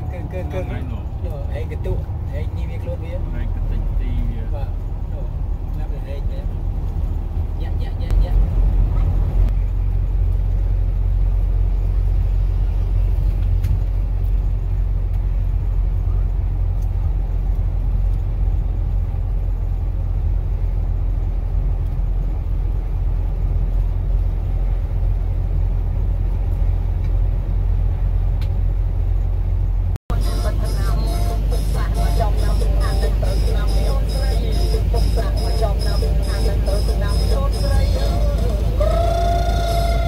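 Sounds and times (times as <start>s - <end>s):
engine and tyres rumbling on road: 0.0s - 40.0s.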